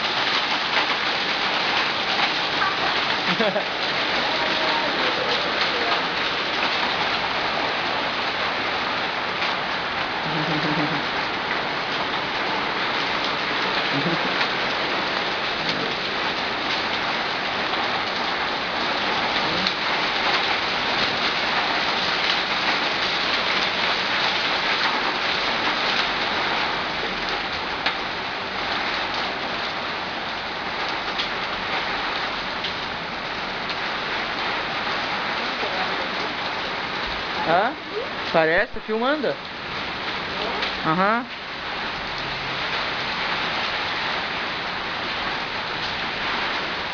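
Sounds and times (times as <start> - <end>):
hail and rain pelting ground: 0.0 - 46.9.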